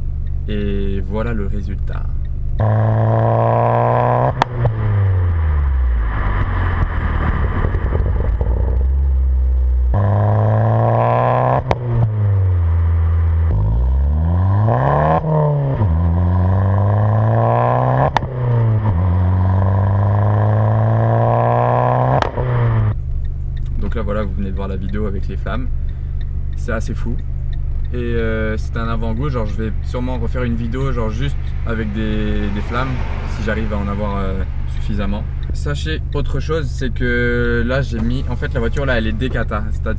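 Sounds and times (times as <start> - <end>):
car engine revving: 0.0 - 39.9
exhaust pops: 0.0 - 39.9.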